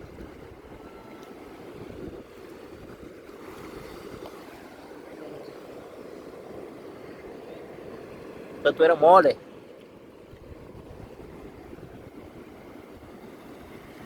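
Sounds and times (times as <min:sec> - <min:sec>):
wind rumbling on microphone: 0:00.0 - 0:08.5, 0:10.1 - 0:14.0
surf washing on sandy beach: 0:00.0 - 0:14.0.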